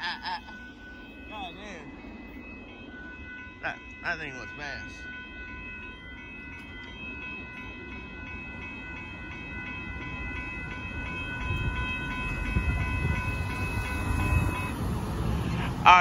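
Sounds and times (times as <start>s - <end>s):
low rumble of cars driving: 0.0s - 16.0s
railroad crossing bell ringing: 0.0s - 16.0s.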